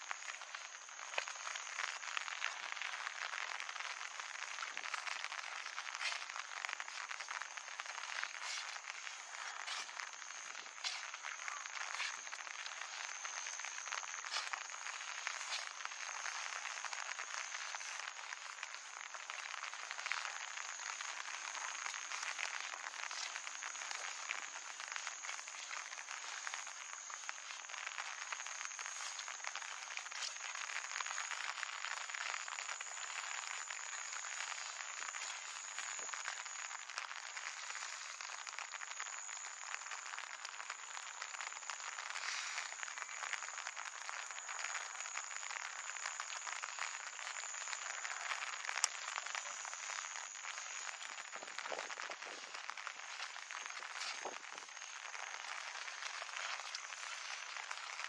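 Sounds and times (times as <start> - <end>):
frogs croaking: 0.0 - 58.0.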